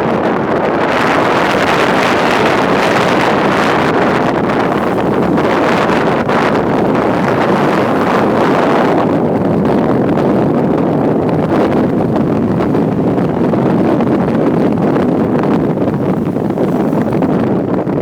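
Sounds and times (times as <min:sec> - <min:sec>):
wind buffeting the microphone: 0:00.0 - 0:18.0
motorcycle engine running: 0:00.9 - 0:18.0.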